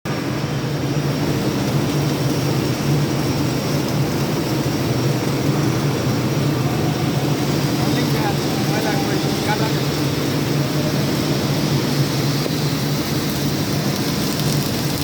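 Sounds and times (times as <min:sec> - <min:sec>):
low machine hum: 0:00.1 - 0:15.0
welding arc crackling hiss: 0:00.1 - 0:15.0.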